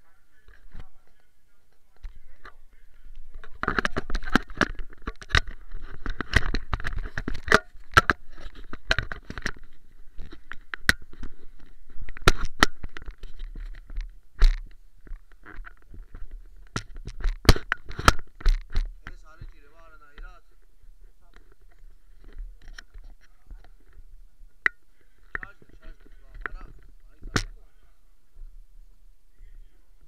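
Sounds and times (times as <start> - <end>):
sharp clicks and knocks: 2.0 - 20.4, 21.2 - 27.6.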